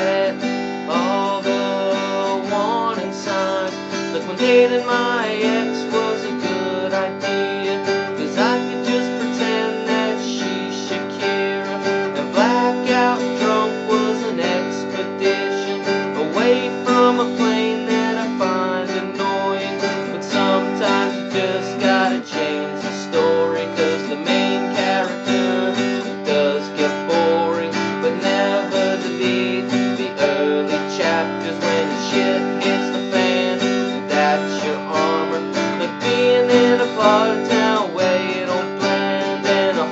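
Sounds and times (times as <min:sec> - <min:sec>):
strummed acoustic guitar music: 0:00.0 - 0:39.9.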